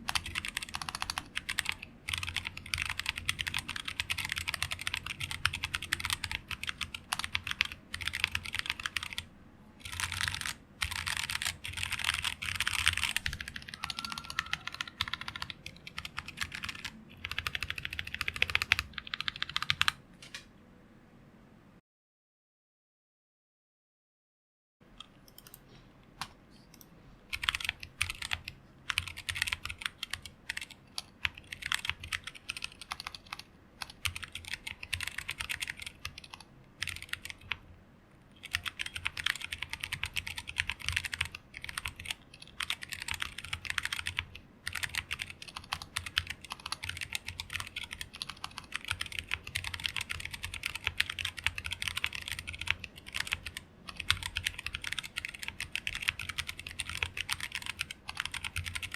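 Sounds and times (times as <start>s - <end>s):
mechanical keyboard typing: 0.0s - 20.5s, 25.0s - 25.6s, 26.2s - 37.6s, 38.4s - 58.9s.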